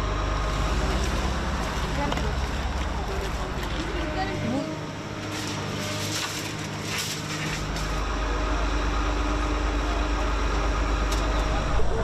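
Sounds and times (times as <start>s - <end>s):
heavy engine rumbling: 0.0s - 12.0s.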